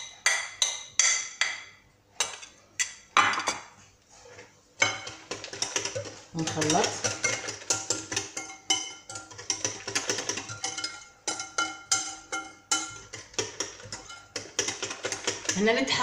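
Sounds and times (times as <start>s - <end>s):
whisk clinking in a glass bowl: 0.0s - 3.0s, 4.8s - 16.0s.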